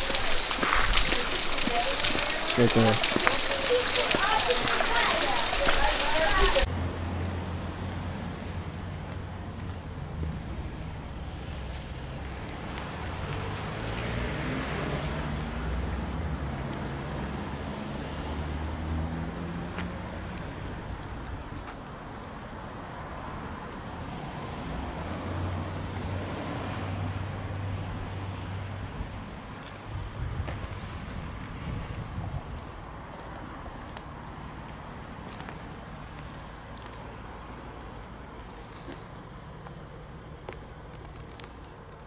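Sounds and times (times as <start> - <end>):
tyre and road noise: 0.0 - 42.0.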